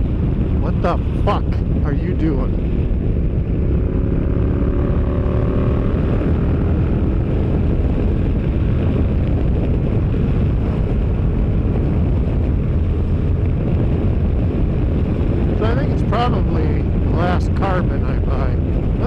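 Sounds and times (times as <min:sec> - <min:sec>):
motorcycle engine at speed: 0:00.0 - 0:19.0
wind rumble on microphone: 0:00.0 - 0:19.0.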